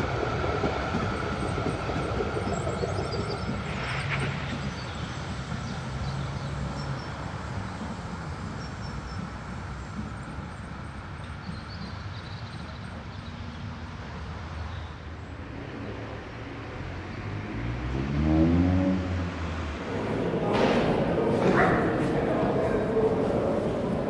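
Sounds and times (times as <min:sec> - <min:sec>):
tram rumbling along track: 0:00.0 - 0:24.0.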